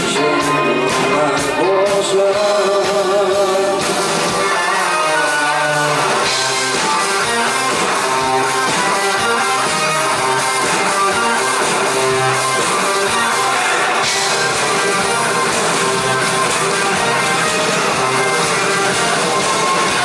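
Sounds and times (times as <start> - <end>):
electric guitar: 0.0 - 20.0
rock band playing live: 0.0 - 20.0.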